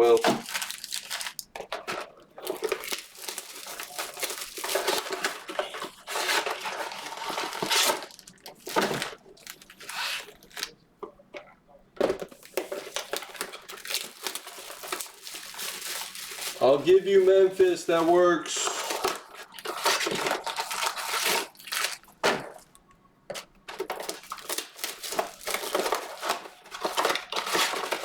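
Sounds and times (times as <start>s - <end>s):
plastic wrapping crinkling and tearing: 0.0s - 10.8s, 12.2s - 22.8s, 23.4s - 28.0s.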